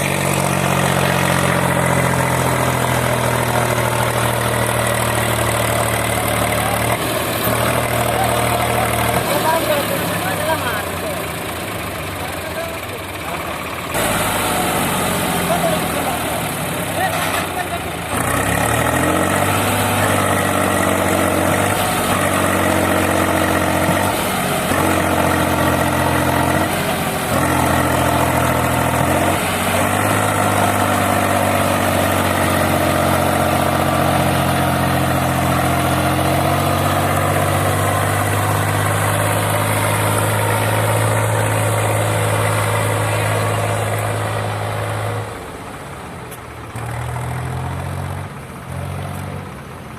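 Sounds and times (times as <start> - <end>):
diesel engine under load: 0.0 - 49.9.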